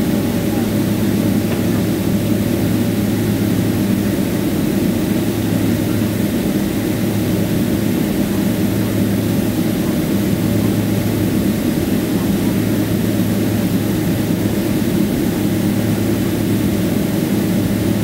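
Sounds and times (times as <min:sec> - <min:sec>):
jet engine cabin hum: 0:00.0 - 0:18.0.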